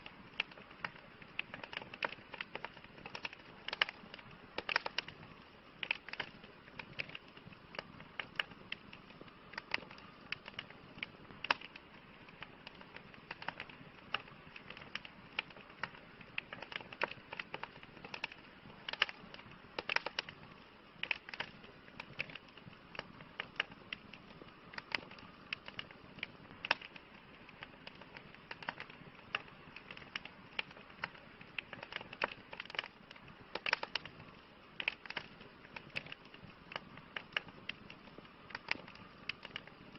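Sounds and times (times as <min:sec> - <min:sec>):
campfire crackling and popping: 0:00.0 - 0:39.9
soft steady hiss: 0:00.0 - 0:39.9.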